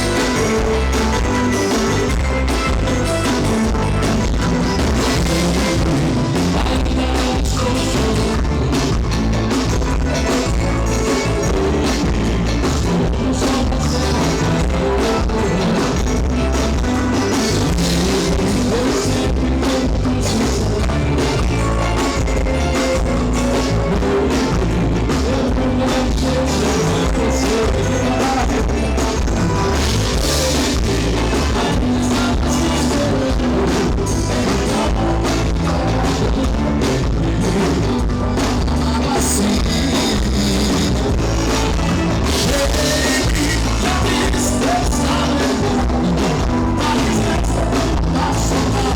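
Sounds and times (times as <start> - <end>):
live band playing: 0.0 - 48.9.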